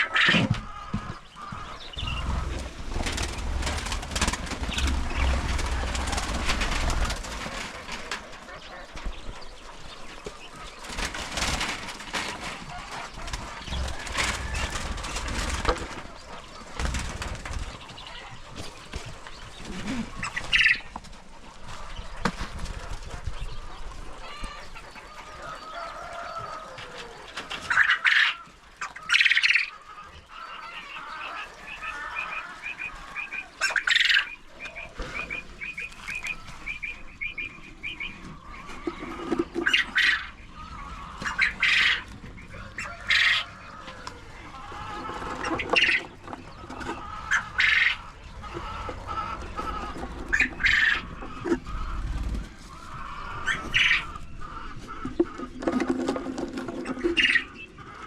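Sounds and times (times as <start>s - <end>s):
poultry squawking: 0.0s - 58.0s.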